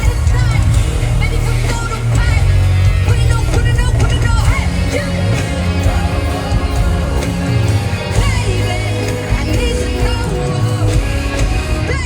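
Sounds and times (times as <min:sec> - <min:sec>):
heavy bass line: 0:00.0 - 0:12.0
live pop concert music: 0:00.0 - 0:12.0
person singing: 0:00.0 - 0:12.0.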